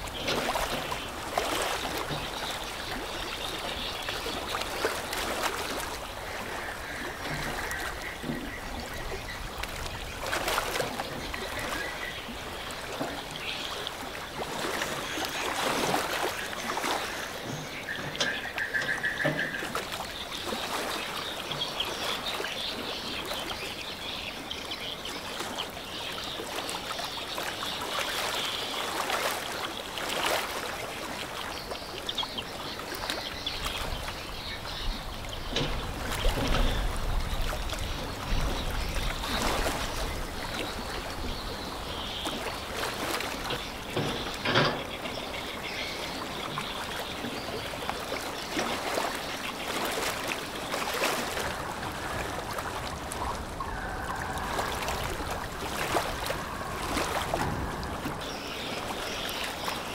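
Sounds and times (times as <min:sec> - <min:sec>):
water lapping and splashing: 0:00.0 - 0:59.9.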